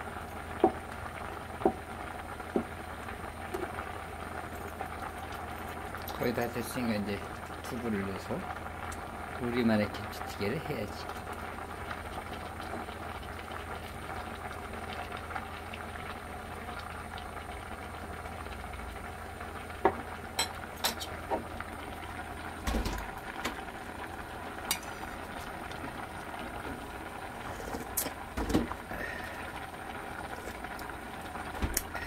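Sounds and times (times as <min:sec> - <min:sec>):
stew bubbling in a pot: 0:00.0 - 0:32.0.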